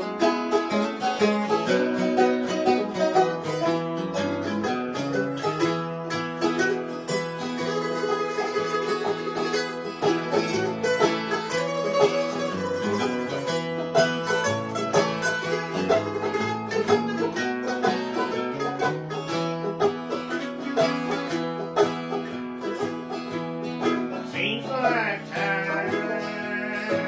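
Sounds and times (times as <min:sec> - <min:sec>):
acoustic guitar backing: 0:00.0 - 0:27.0
banjo picking fast rolls: 0:00.0 - 0:27.0.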